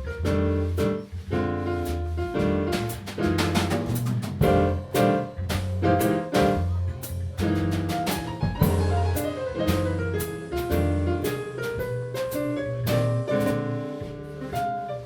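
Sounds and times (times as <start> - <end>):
jazzy piano with bass and drums: 0.0 - 15.0.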